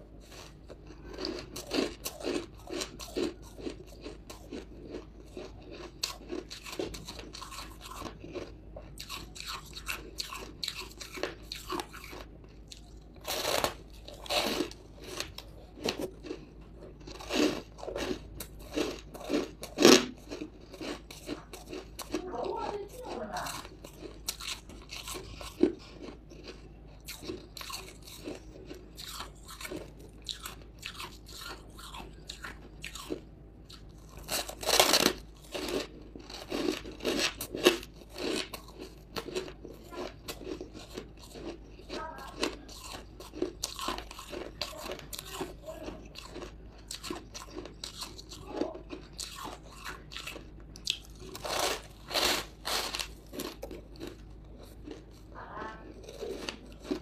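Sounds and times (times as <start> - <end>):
ice chunks being chewed: 0.0 - 57.0.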